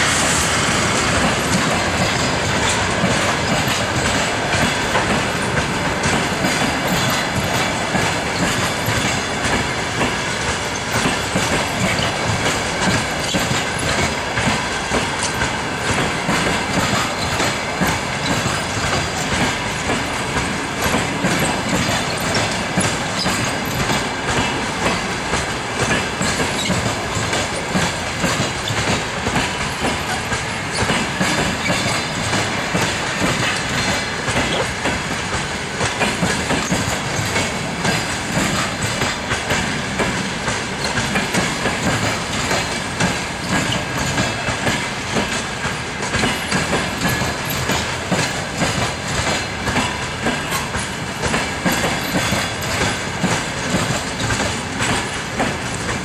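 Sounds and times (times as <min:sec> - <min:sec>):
train wheels clacking over rail joints: 0:00.0 - 0:56.0.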